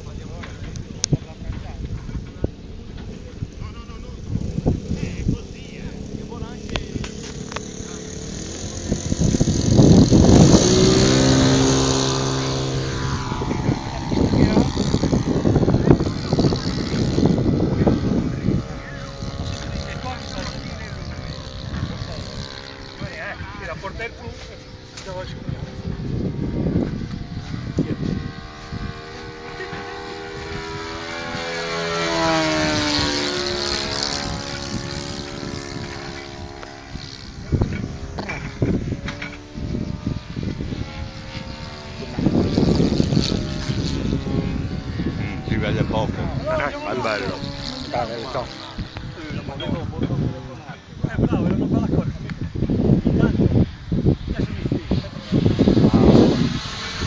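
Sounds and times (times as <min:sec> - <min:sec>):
model plane motor and propeller: 0:00.0 - 0:57.0.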